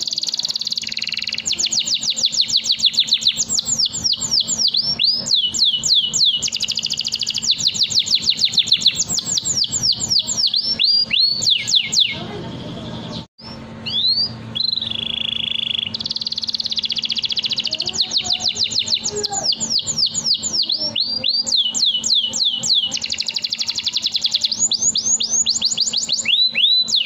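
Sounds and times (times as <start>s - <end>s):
canary singing: 0.0s - 27.0s.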